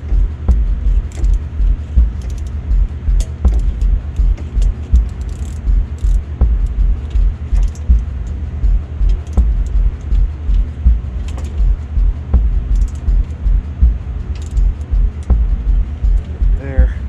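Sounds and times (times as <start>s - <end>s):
pulsing low rumble: 0.0s - 17.0s
torque wrench clicking: 0.0s - 17.0s.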